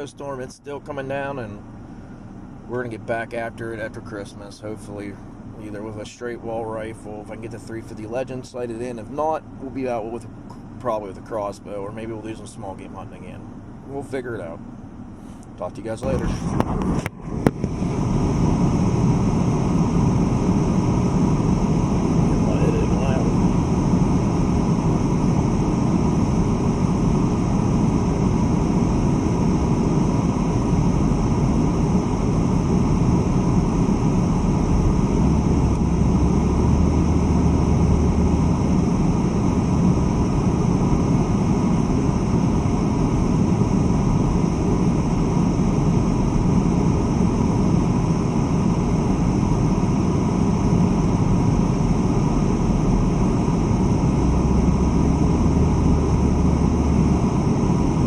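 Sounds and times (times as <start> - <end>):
car engine drone: 0.0 - 58.0.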